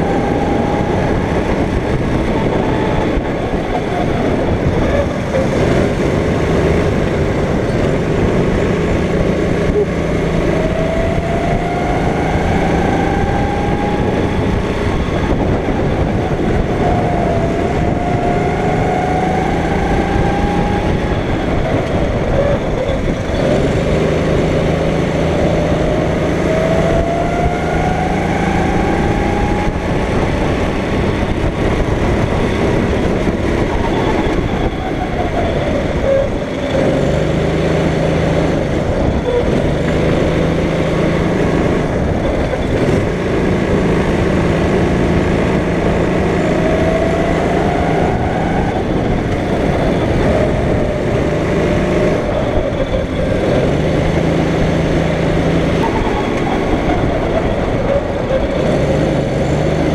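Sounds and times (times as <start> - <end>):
constant rushing noise: 0.0 - 59.9
go-kart engine accelerating: 0.0 - 59.9.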